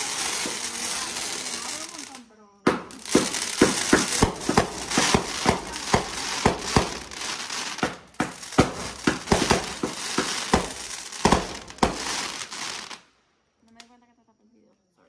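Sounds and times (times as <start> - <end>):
firework shots and bangs: 0.0 - 13.0
crackling of bursting stars: 0.0 - 13.2.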